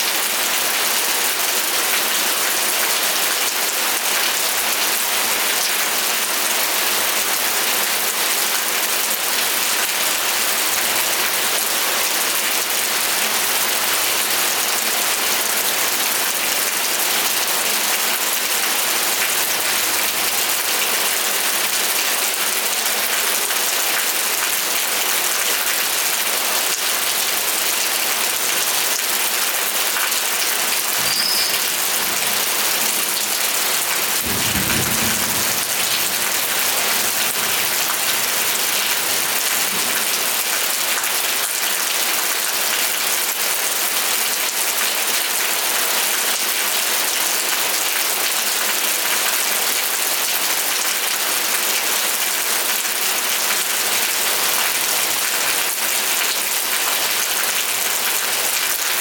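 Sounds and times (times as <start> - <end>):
heavy rain hissing on surfaces: 0.0 - 59.0.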